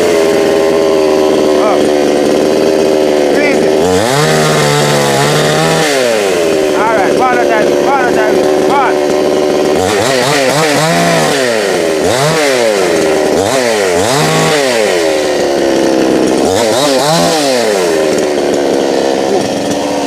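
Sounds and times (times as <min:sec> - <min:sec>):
chainsaw engine revving: 0:00.0 - 0:20.0.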